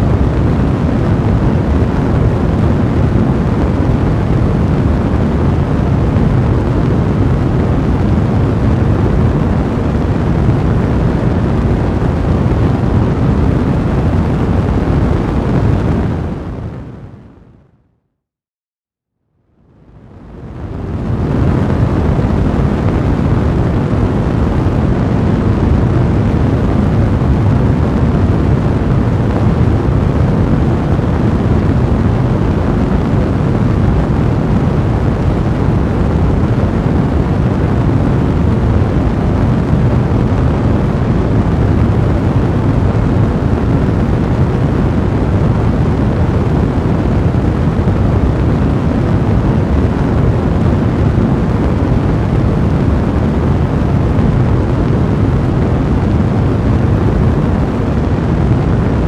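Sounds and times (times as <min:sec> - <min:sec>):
fire blazing: 0:00.0 - 0:17.2, 0:20.0 - 0:59.0.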